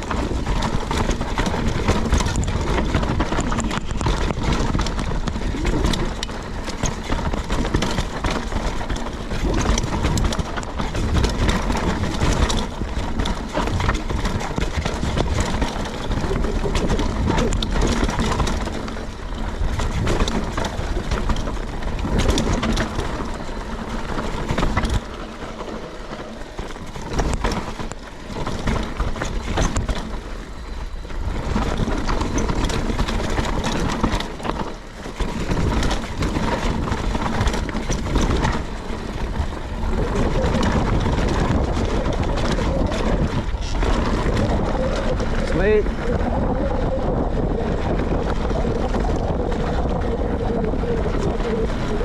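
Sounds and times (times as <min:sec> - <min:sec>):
bike rattling over bumps: 0:00.0 - 0:52.0
bike tyres rolling over rocks: 0:00.0 - 0:52.0.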